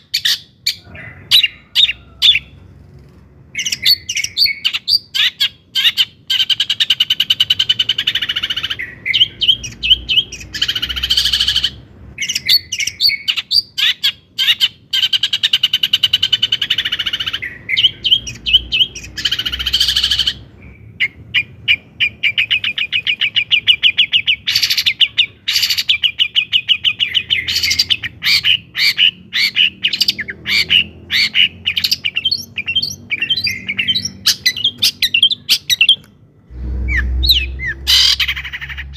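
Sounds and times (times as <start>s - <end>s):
bird singing fast trills: 3.5s - 36.0s, 36.6s - 38.9s.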